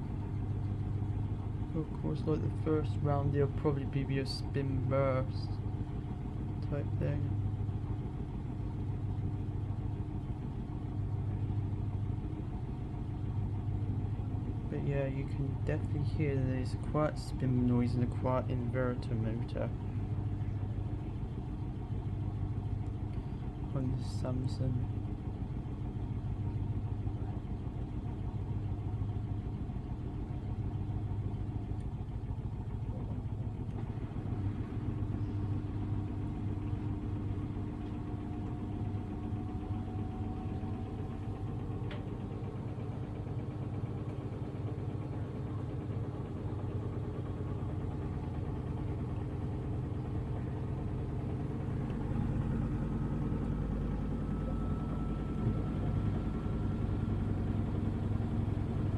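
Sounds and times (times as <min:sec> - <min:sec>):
washing machine spinning: 0:00.0 - 0:58.9.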